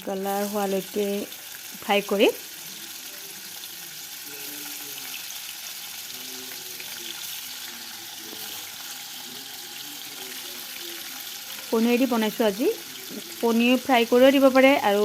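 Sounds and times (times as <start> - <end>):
cheese frying in hot oil: 0.0 - 15.0.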